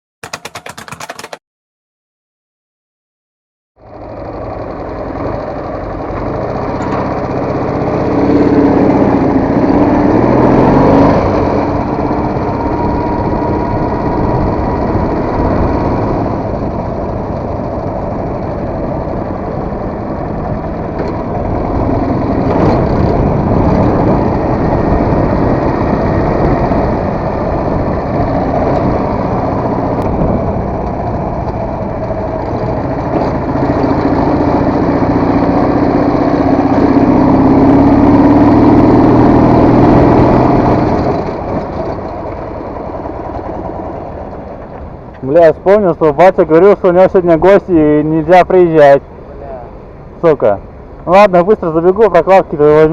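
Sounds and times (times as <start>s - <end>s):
motorcycle engine revving: 0.2s - 1.4s, 3.8s - 45.1s.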